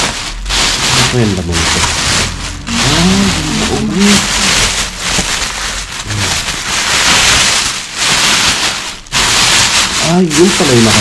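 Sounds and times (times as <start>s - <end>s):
plastic bags rustling and crinkling: 0.0s - 11.0s.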